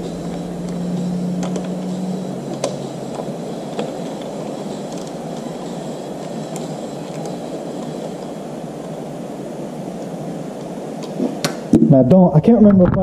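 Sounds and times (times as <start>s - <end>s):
steady rushing noise: 0.0s - 11.9s.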